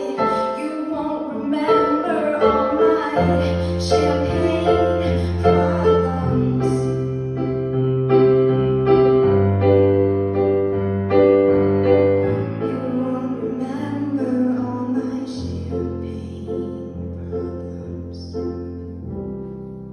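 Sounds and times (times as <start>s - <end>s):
piano ballad chords: 0.0s - 19.9s.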